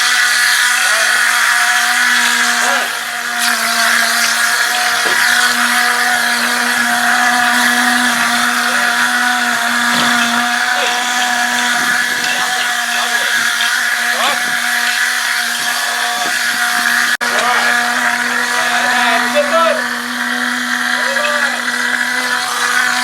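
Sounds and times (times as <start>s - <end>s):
machine motor humming: 0.0s - 23.0s.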